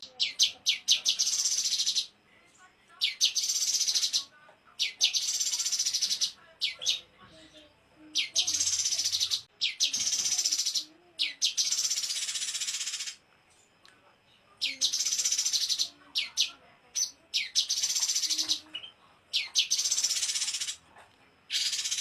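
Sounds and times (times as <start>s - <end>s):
songbird singing buzzy trills: 0.0s - 22.0s.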